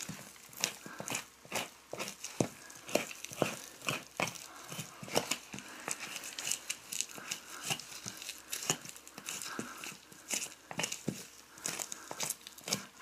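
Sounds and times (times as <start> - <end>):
knife tearing meat: 0.0 - 13.0.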